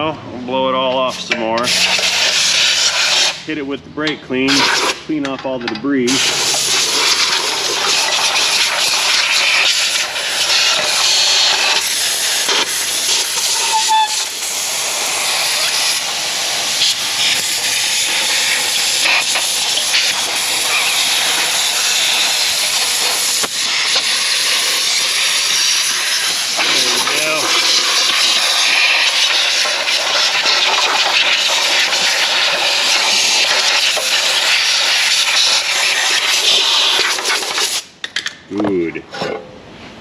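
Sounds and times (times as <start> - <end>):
pressurised jet hissing: 1.1 - 3.5, 6.1 - 37.9.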